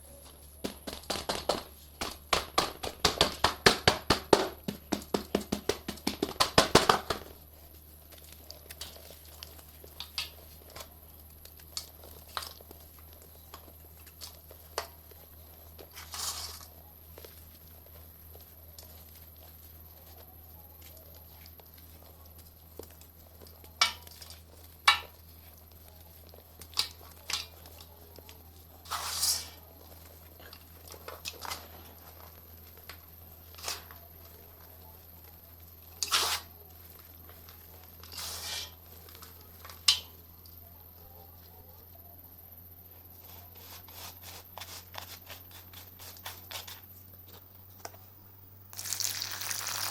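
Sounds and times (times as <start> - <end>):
dried mud crunching and crumbling: 0.0 - 40.4, 48.7 - 49.9.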